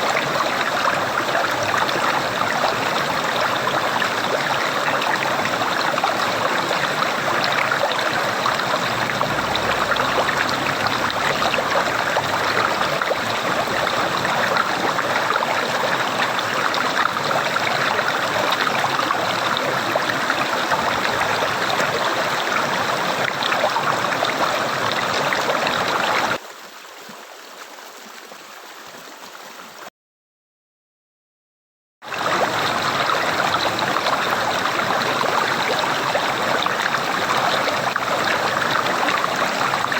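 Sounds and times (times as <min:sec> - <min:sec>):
running water gurgling: 0:00.0 - 0:29.9, 0:32.0 - 0:39.9.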